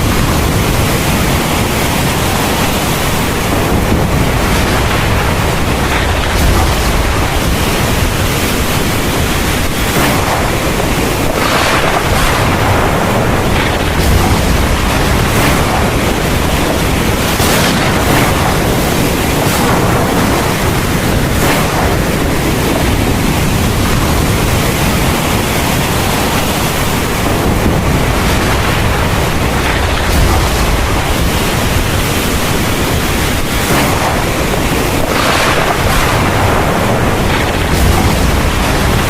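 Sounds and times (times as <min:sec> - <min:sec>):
heavy rain pouring: 0:00.0 - 0:39.0
deep low rumble: 0:03.5 - 0:25.0, 0:27.2 - 0:34.4, 0:35.0 - 0:39.0.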